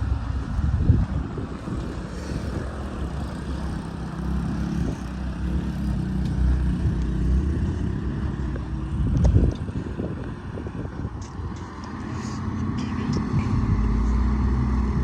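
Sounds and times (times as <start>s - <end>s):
road roller diesel engine: 0.0s - 15.0s.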